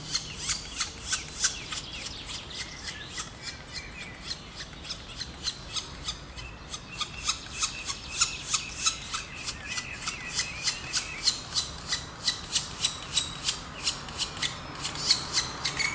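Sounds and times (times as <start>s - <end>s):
rhythmic rasping bird call: 0.0s - 15.9s
woodpecker nestlings begging: 0.0s - 15.9s.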